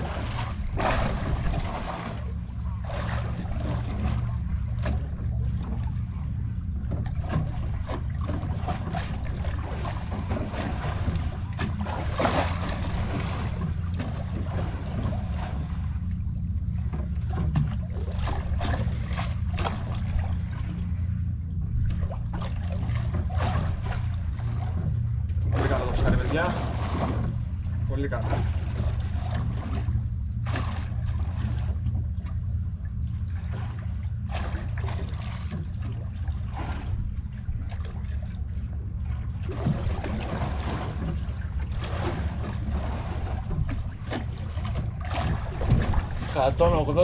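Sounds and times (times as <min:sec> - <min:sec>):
water splashing against hull: 0:00.0 - 0:47.0.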